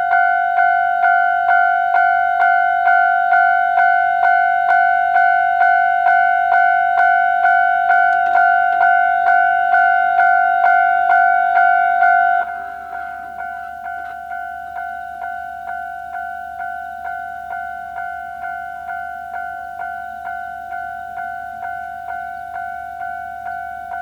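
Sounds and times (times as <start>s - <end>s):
level-crossing electronic warning bell: 0.0s - 24.0s.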